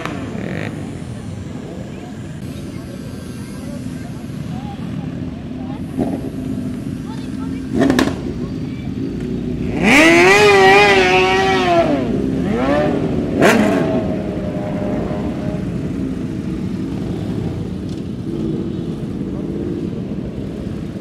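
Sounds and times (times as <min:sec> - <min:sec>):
motorcycle engine revving: 0:00.0 - 0:21.0
motorcycles rumbling past: 0:00.0 - 0:21.0.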